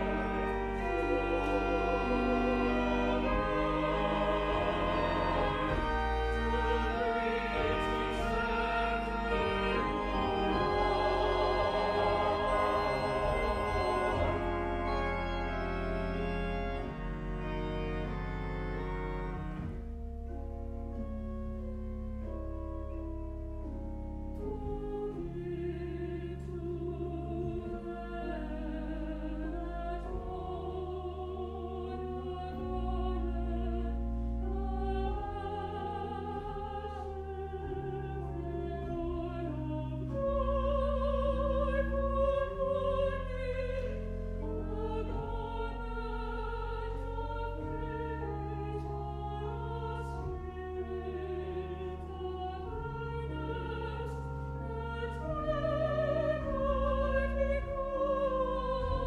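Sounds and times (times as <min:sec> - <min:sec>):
choir singing: 0:00.0 - 0:17.0, 0:25.1 - 0:59.0
pipe organ chords: 0:00.0 - 0:59.0.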